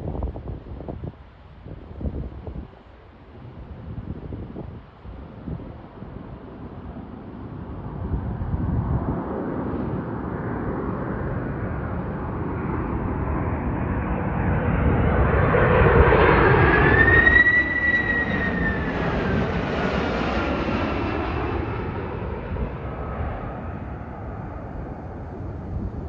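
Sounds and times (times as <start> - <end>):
jet engine whine: 0.0 - 26.0
jet rumble: 0.0 - 26.0.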